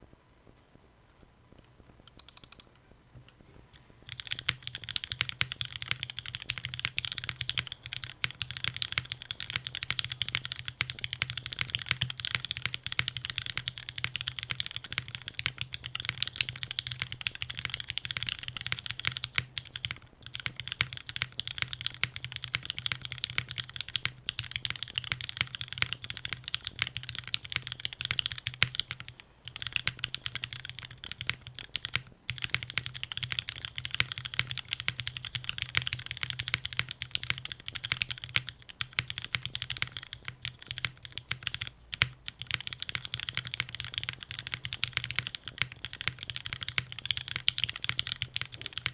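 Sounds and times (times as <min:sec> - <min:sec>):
mechanical keyboard typing: 0:02.1 - 0:02.8, 0:04.0 - 0:48.9.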